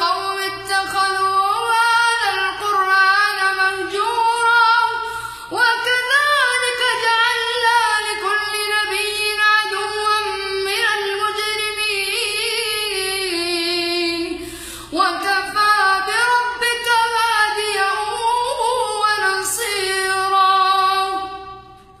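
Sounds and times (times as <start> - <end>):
boy chanting melodically: 0.0 - 21.6.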